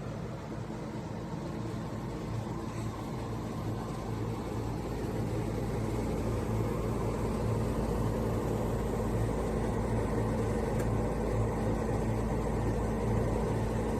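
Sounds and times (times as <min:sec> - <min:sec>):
dehumidifier fan hum: 0:00.0 - 0:13.9
low electrical drone: 0:00.0 - 0:13.9.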